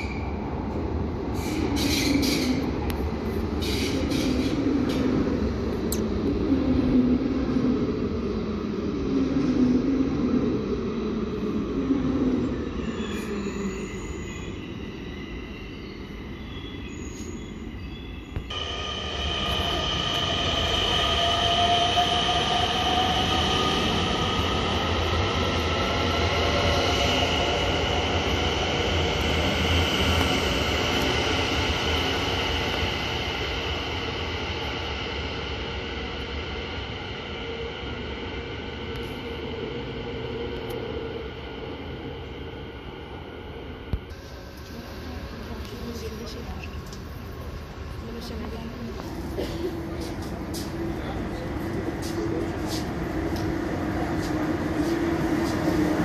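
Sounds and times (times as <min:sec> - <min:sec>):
electric train rumbling and whining: 0:00.0 - 0:56.0.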